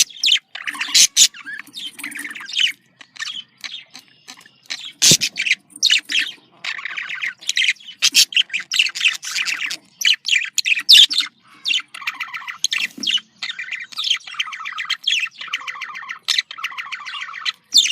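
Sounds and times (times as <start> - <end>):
budgerigars chattering and warbling: 0.0 - 17.9.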